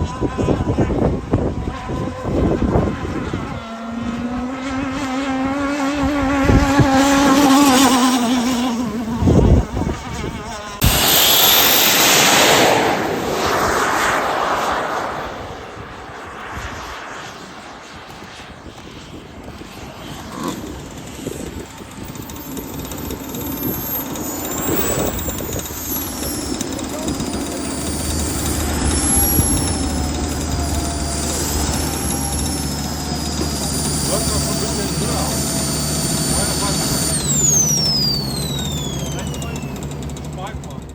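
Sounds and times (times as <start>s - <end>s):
jet turbine roaring and whining: 5.9s - 40.9s.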